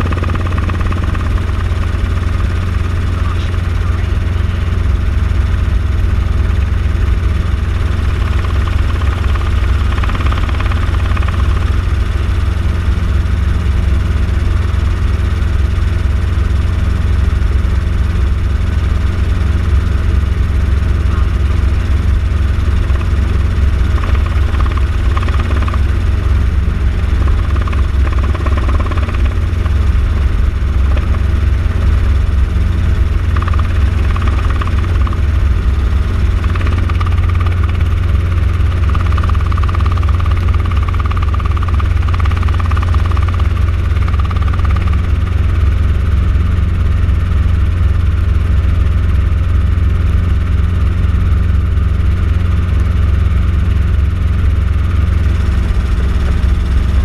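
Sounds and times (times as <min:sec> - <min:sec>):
helicopter engine and rotor hum: 0:00.0 - 0:57.0.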